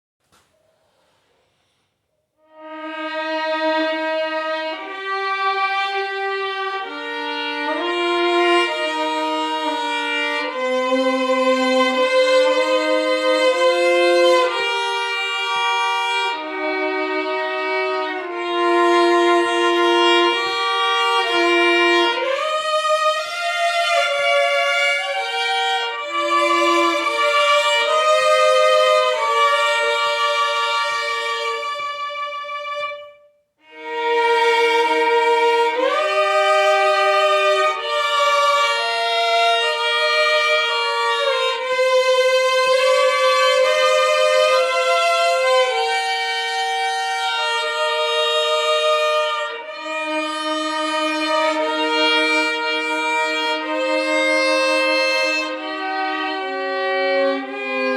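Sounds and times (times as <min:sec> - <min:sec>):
violin playing slow hymn: 0:02.4 - 0:57.9.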